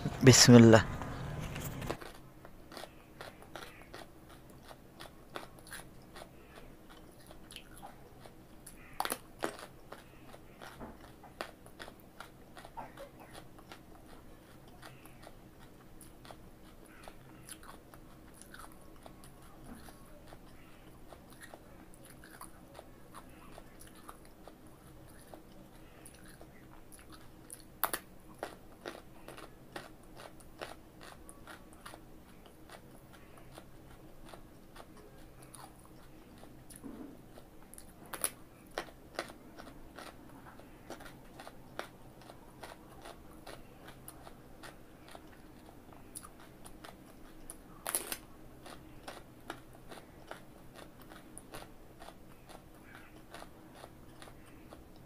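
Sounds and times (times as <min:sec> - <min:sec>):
crunching chews: 0:01.0 - 0:55.0.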